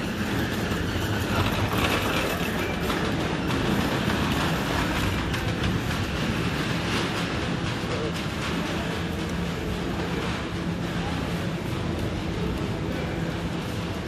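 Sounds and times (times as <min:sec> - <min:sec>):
shopping trolley rolling: 0:00.0 - 0:14.0.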